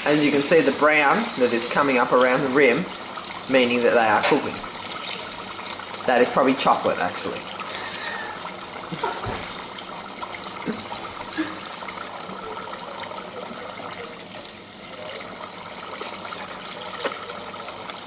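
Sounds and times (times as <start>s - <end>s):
food deep frying in hot oil: 0.0s - 18.0s.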